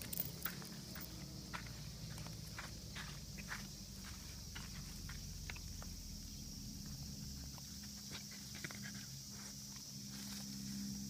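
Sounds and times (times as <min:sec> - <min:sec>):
crackles on gritty ground: 0:00.0 - 0:10.9
cicada chorus: 0:00.0 - 0:11.0.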